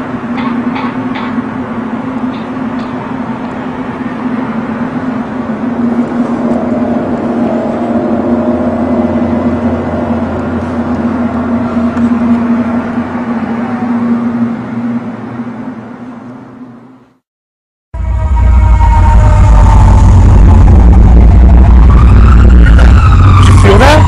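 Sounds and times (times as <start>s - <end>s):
higher wavering tone: 0.0s - 17.0s, 18.0s - 24.0s
deep humming drone: 0.0s - 17.2s, 18.0s - 24.0s.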